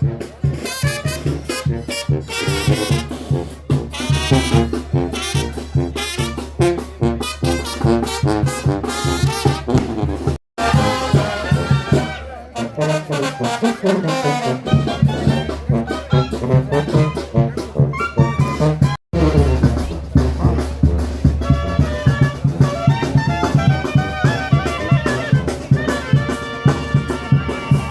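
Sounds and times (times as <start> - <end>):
brass band playing: 0.0 - 27.9.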